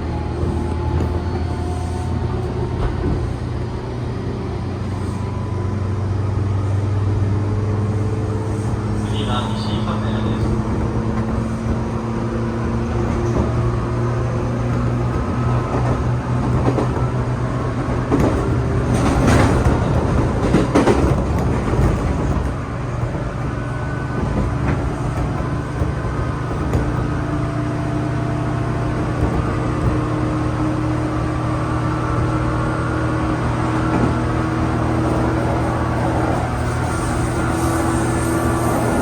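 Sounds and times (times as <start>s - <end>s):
electric train motor hum: 0.0s - 39.0s
wheel and rail noise: 0.0s - 39.0s.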